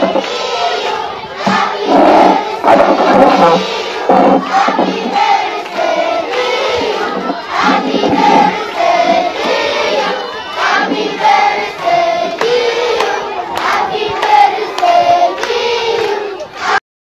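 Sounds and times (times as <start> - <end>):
children singing in unison: 0.0 - 16.8.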